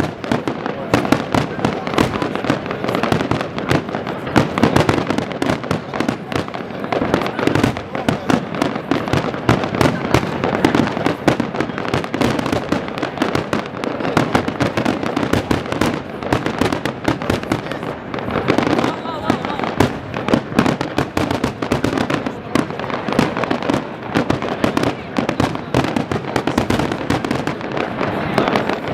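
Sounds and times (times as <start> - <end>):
people talking: 0.0 - 15.3, 16.8 - 28.9
fireworks bangs and crackling: 0.0 - 28.9.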